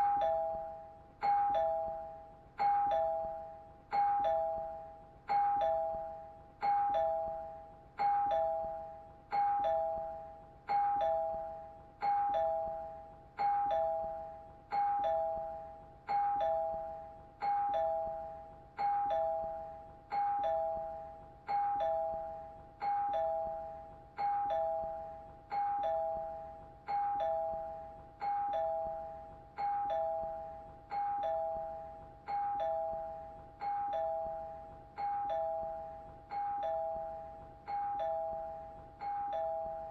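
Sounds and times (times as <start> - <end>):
two-note doorbell chime: 0.0 - 39.9.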